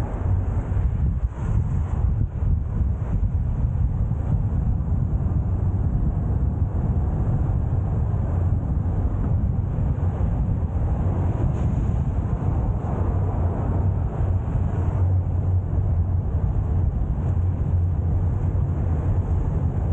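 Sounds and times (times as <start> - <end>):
car engine and road noise: 0.0 - 19.9
wind noise: 0.0 - 19.9.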